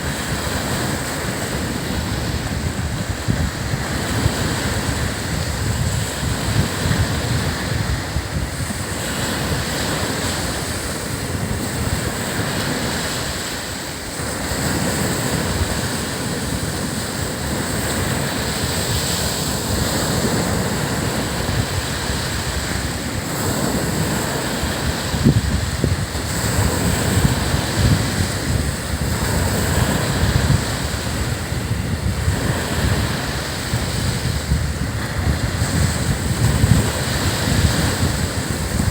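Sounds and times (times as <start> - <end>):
surf breaking on beach: 0.0 - 38.9
wind buffeting microphone: 0.0 - 38.9.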